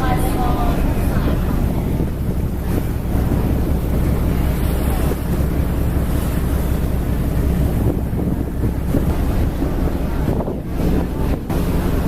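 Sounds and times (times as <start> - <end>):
boat engine rumble: 0.0 - 12.0
water: 0.0 - 12.0
wind buffeting microphone: 0.0 - 12.0.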